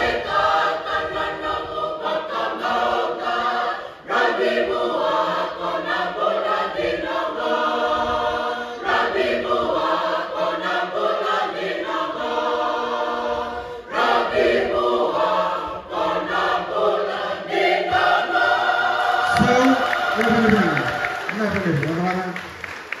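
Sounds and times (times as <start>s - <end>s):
choir singing a cappella: 0.0s - 21.4s.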